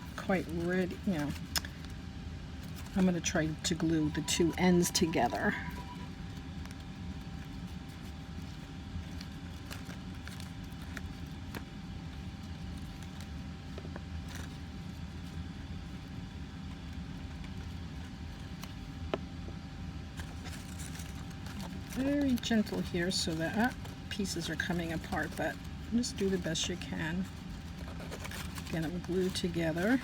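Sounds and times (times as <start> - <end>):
paper clicks and rustles: 0.0 - 2.0, 2.6 - 30.0
low background hum: 0.0 - 30.0.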